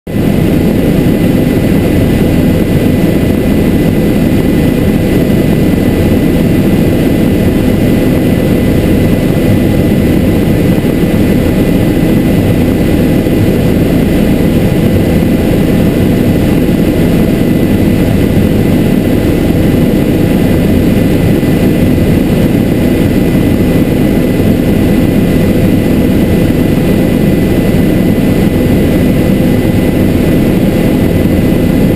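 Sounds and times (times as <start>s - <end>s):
helicopter rotor and engine drone: 0.1s - 31.9s.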